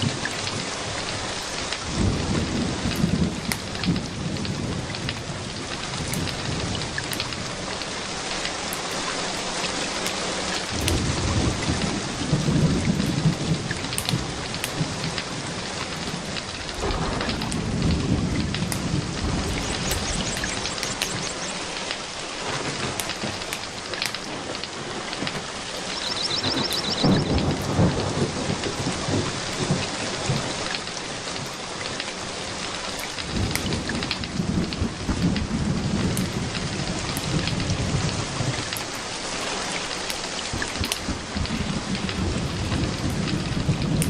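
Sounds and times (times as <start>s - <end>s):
thunder rumbling: 0.0s - 9.6s, 10.6s - 31.6s, 32.3s - 38.8s, 40.5s - 44.0s
steady rain: 0.0s - 44.0s.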